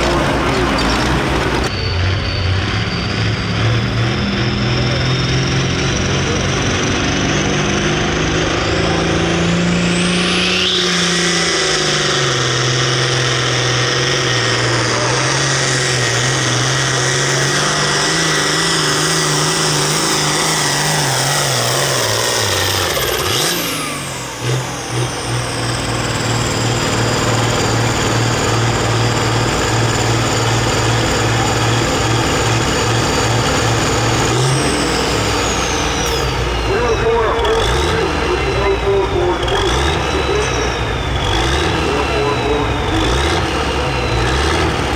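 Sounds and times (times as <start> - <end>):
tractor diesel engine: 0.0 - 44.9.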